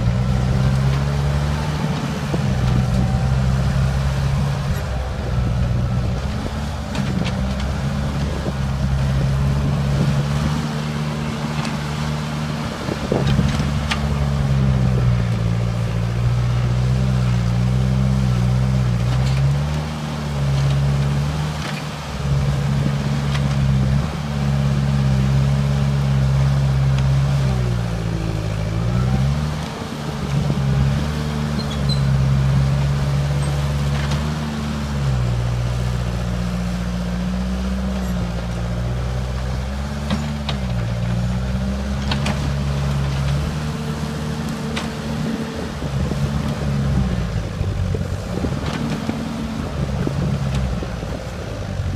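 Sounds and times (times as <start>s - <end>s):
loader engine working under load: 0.0s - 51.9s.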